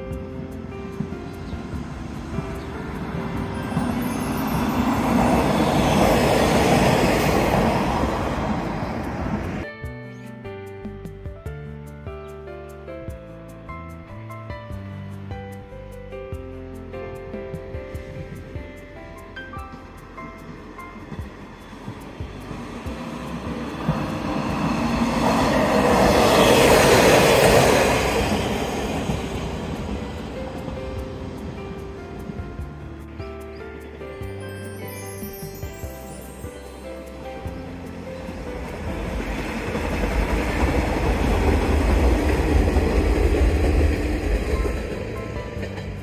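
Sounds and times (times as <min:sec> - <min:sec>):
diesel railcar passing: 0:00.0 - 0:09.7, 0:16.4 - 0:46.0.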